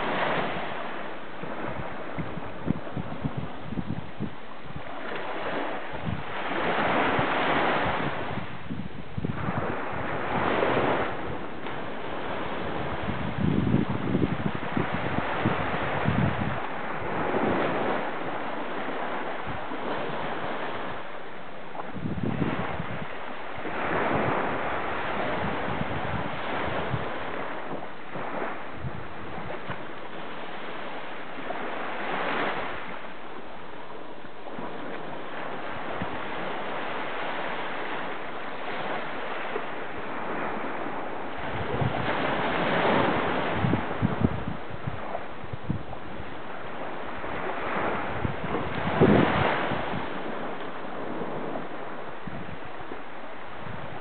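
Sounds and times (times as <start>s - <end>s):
waves breaking on sandy beach: 0.0s - 54.0s
wind rumbling on microphone: 0.0s - 54.0s.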